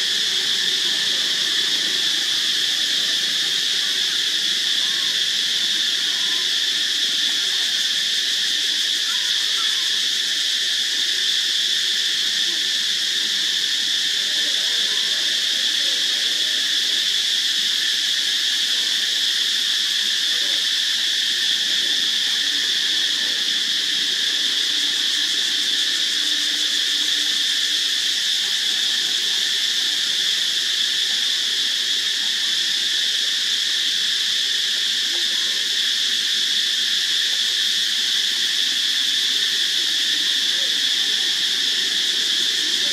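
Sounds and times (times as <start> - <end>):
insect chorus buzzing: 0.0 - 42.9.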